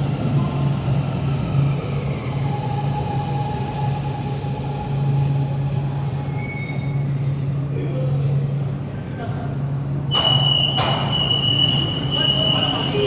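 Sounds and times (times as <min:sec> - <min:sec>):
metro train low hum: 0:00.0 - 0:13.0
train whine: 0:00.0 - 0:13.0.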